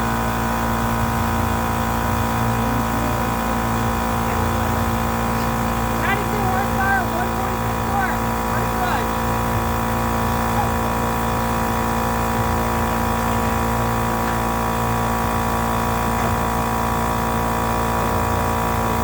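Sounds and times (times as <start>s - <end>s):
machine droning steadily: 0.0s - 19.0s.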